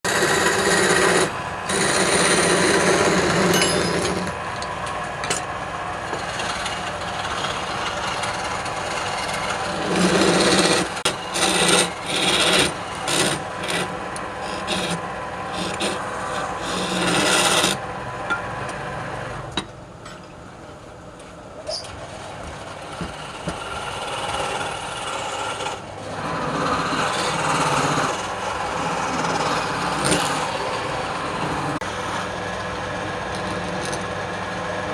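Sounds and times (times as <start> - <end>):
lathe tool scraping wood: 0.0 - 4.5, 6.0 - 17.8, 22.6 - 34.9.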